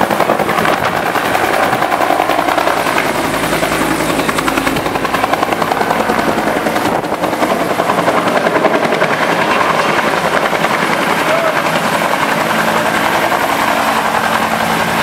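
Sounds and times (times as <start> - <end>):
helicopter engine noise: 0.0 - 15.0
helicopter rotor beating: 0.0 - 15.0.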